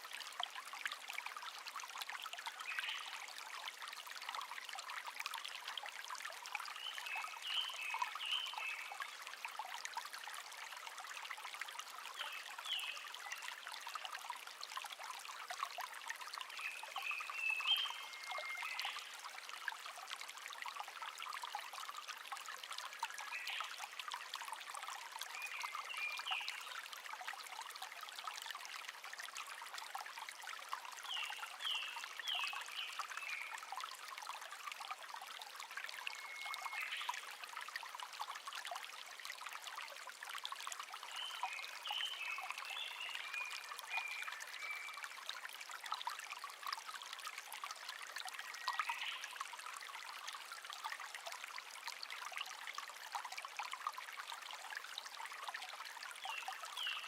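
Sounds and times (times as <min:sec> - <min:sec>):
brook trickling: 0:00.0 - 0:57.0.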